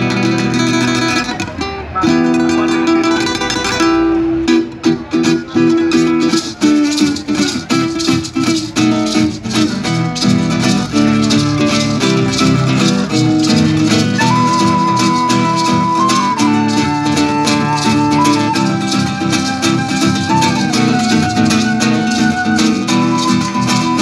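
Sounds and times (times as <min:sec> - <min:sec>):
acoustic guitar strumming: 0:00.0 - 0:24.0
maracas shaking: 0:04.7 - 0:24.0.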